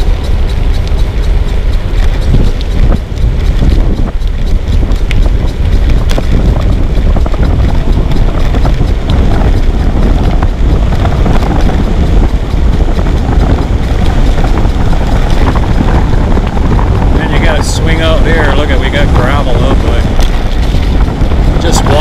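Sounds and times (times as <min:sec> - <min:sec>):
bicycle rattling clicks and knocks: 0:00.0 - 0:22.0
wind buffeting microphone: 0:00.0 - 0:22.0.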